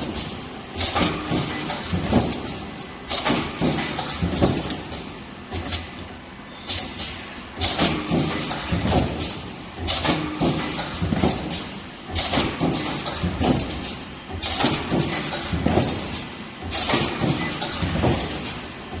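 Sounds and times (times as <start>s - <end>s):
machine knocks and clunks: 0.0s - 5.8s, 7.6s - 19.0s
welding machine burst with clatter: 0.0s - 6.0s, 6.6s - 19.0s.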